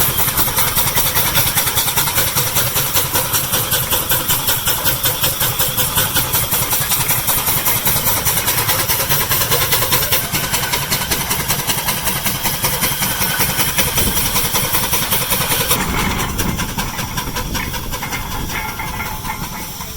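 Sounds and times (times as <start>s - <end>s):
steam engine exhaust chuffing: 0.0s - 19.9s.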